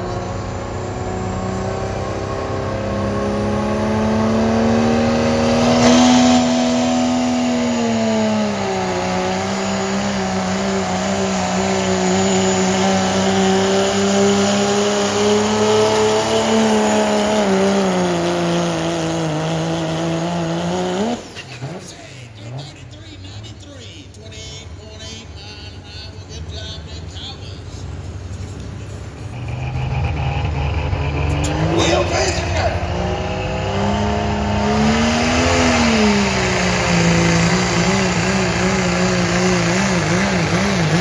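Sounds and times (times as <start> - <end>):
diesel truck engine revving hard: 0.0 - 28.1, 29.2 - 41.0.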